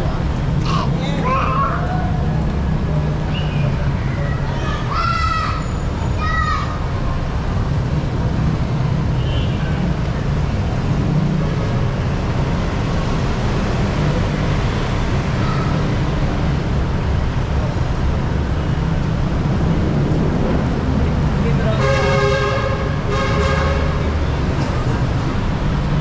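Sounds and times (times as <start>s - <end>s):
street traffic noise: 0.0s - 26.0s.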